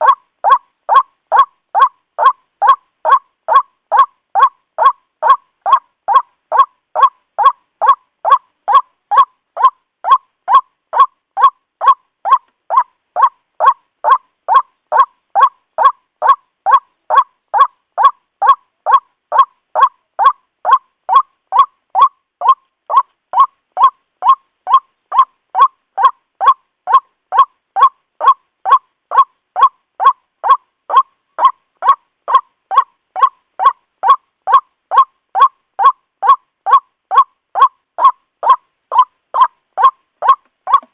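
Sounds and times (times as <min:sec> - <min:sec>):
recorded waterhen call: 0:00.0 - 0:40.9.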